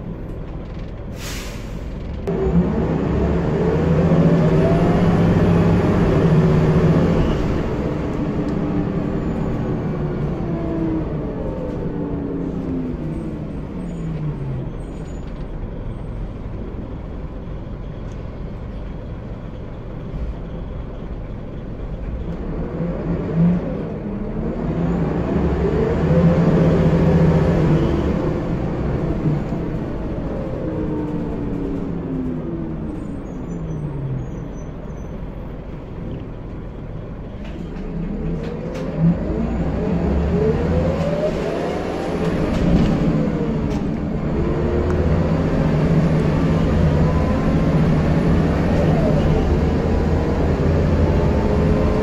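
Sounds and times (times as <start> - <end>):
bus engine pulling: 0.0 - 52.0.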